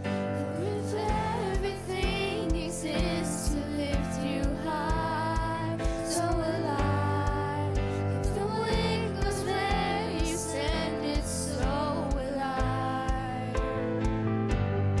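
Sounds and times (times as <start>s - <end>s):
steady low beat: 0.0s - 15.0s.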